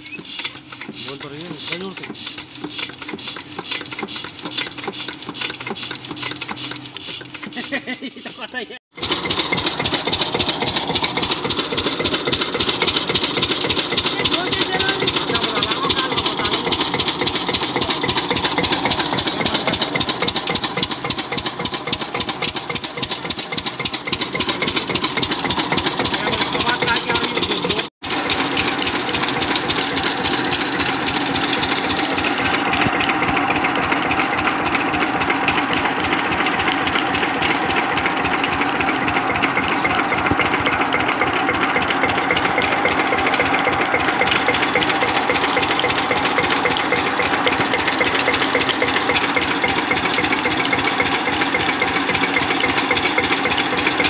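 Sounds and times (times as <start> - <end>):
diesel engine running steadily: 0.1 - 7.8, 8.9 - 54.0.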